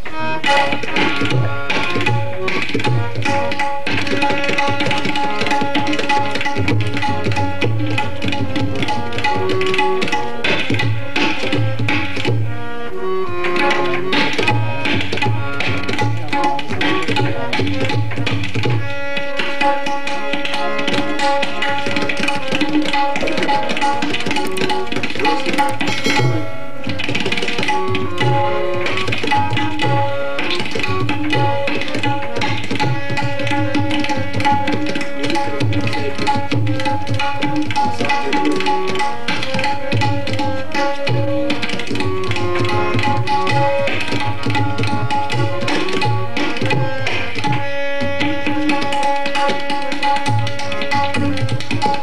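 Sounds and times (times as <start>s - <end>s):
harmonium melody: 0.0s - 52.0s
tabla strokes: 0.0s - 52.0s.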